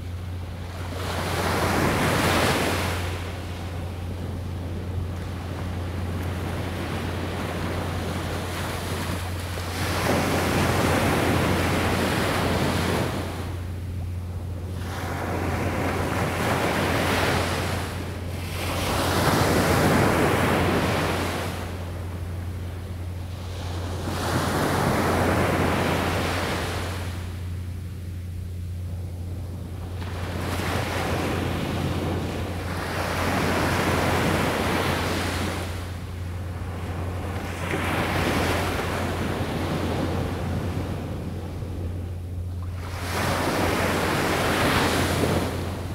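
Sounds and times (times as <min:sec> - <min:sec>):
surf washing up a beach: 0:00.0 - 0:13.9, 0:14.6 - 0:27.6, 0:29.8 - 0:45.9
steady low hum: 0:00.0 - 0:45.9.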